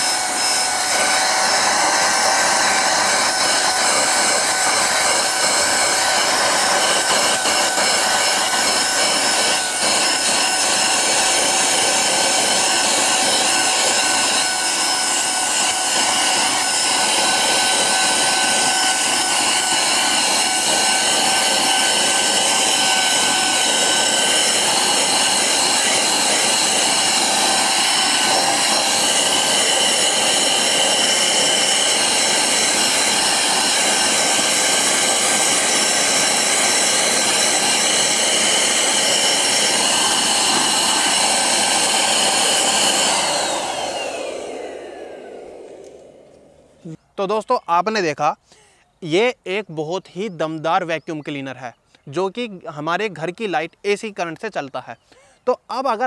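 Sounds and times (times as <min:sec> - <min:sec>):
handheld vacuum cleaner whining: 0:00.0 - 0:47.0
vacuum motor winding down: 0:00.0 - 0:47.0.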